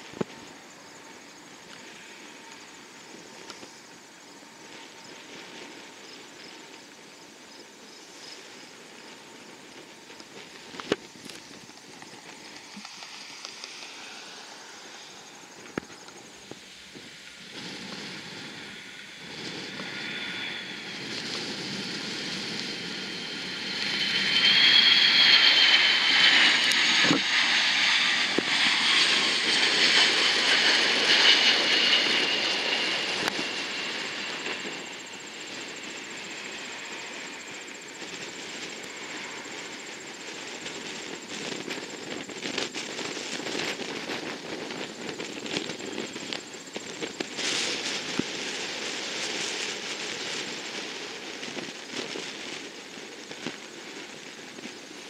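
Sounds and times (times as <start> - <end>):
jet aircraft whine: 0.0 - 55.0.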